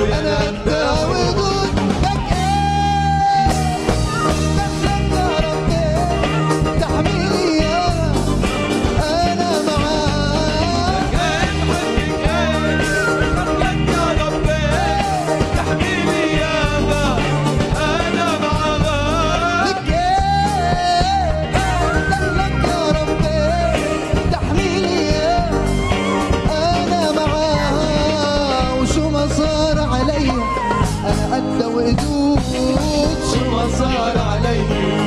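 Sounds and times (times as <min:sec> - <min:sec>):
band playing upbeat pop: 0:00.0 - 0:35.0
person singing: 0:00.0 - 0:35.0.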